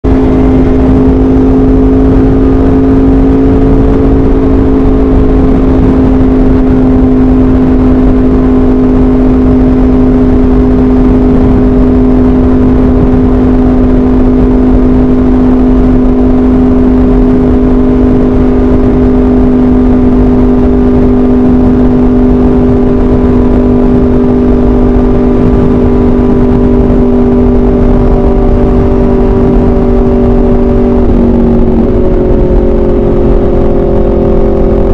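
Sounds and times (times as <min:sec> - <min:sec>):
motorcycle engine cruising: 0:00.0 - 0:34.9
wind rush on microphone: 0:00.0 - 0:34.9.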